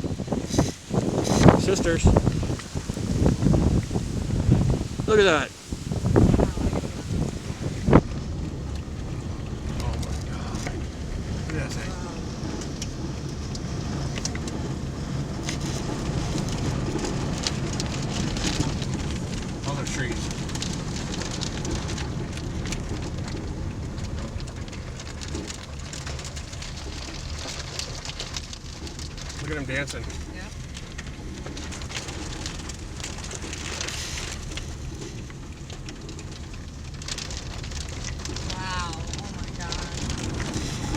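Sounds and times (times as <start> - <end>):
raindrops ticking: 0.0 - 40.9
storm wind on microphone: 0.0 - 40.9.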